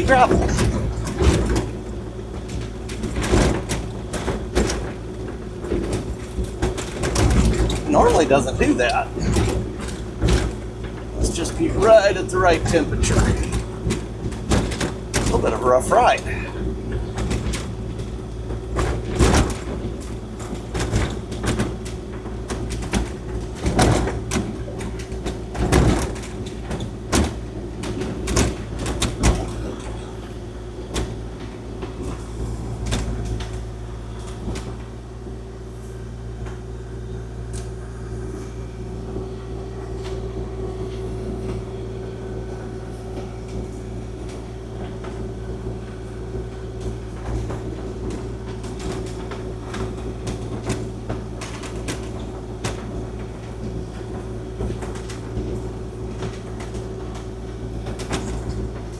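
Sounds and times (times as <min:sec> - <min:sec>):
excavator diesel engine running: 0:00.0 - 0:25.6, 0:26.2 - 0:58.9
clunks and rattles: 0:00.0 - 0:58.9.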